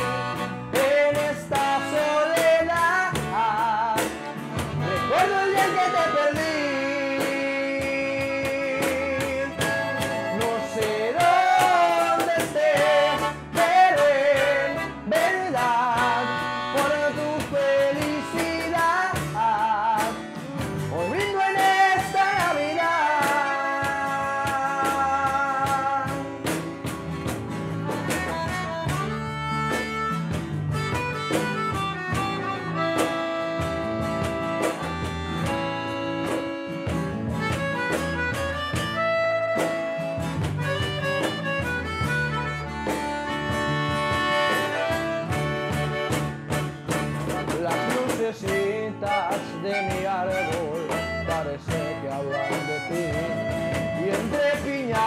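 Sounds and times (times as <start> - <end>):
acoustic guitar: 0.0 - 55.0
bass guitar: 0.0 - 55.0
button accordion melody: 0.0 - 55.0
cajon drumming: 0.0 - 55.0.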